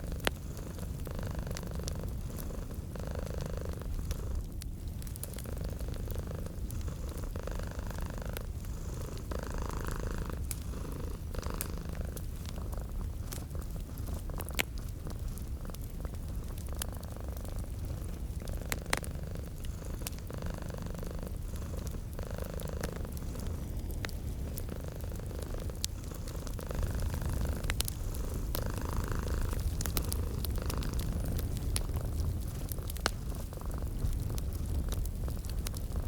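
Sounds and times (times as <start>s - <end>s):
cat purring: 0.0s - 36.0s
wood fire popping and crackling: 0.0s - 36.0s.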